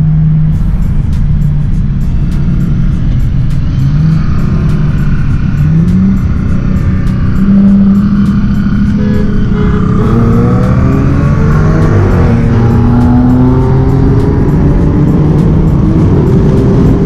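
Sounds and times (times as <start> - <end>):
car engine accelerating: 0.0 - 17.0
music playing in car: 0.0 - 17.0.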